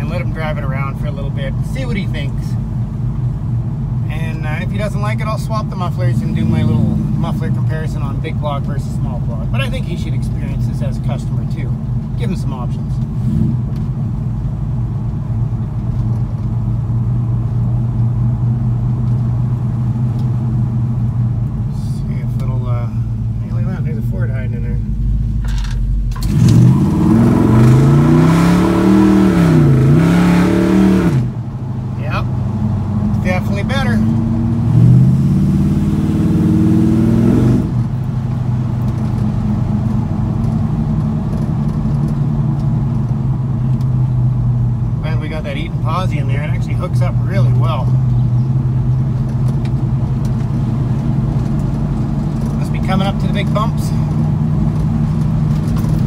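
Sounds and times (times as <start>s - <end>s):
car exhaust drone from inside cab: 0.0s - 56.0s.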